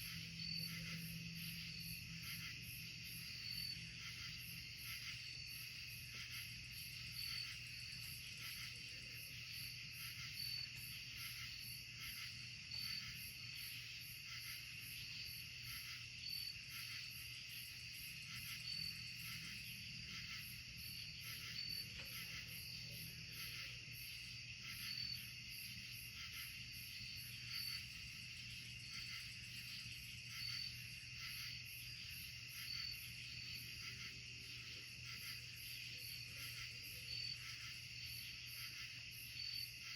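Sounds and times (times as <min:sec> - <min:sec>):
bright insect chirp: 0:00.0 - 0:39.9
crickets and insects trilling: 0:00.0 - 0:39.9.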